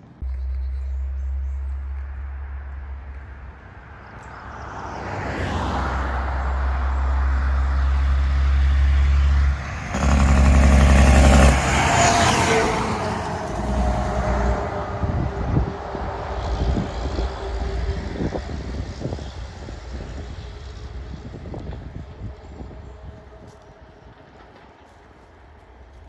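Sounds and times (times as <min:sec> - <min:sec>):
dump truck driving past: 0:00.1 - 0:25.6.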